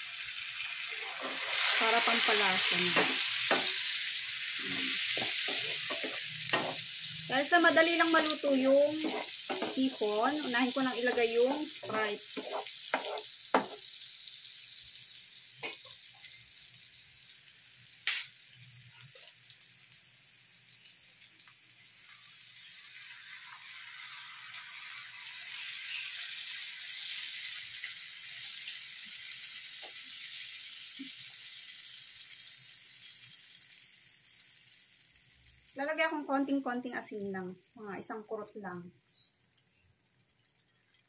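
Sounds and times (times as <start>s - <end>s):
onion sizzling in butter: 0.0s - 41.0s.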